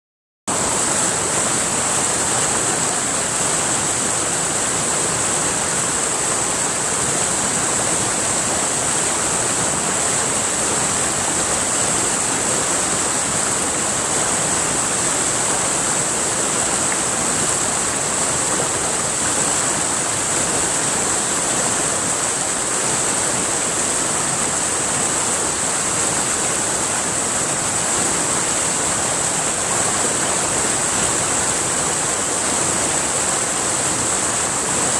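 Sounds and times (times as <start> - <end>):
river water rushing: 0.5 - 34.9.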